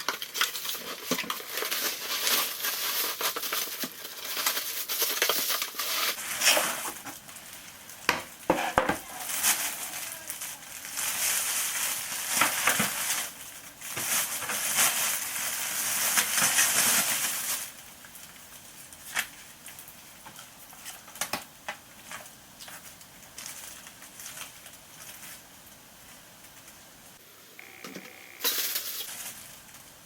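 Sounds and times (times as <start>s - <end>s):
packaging rustling and crinkling: 0.0s - 26.8s, 28.4s - 30.0s.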